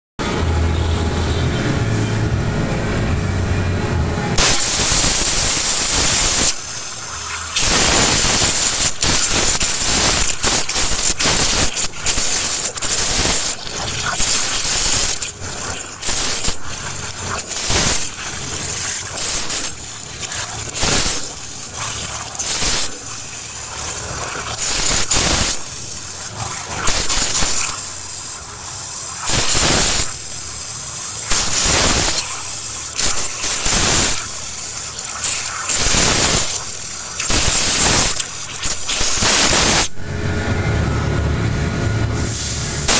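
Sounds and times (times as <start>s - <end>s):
waterjet hissing: 4.4s - 40.0s.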